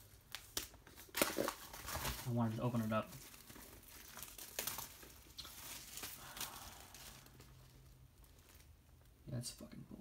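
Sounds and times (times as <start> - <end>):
plastic crinkling: 0.0 - 9.2.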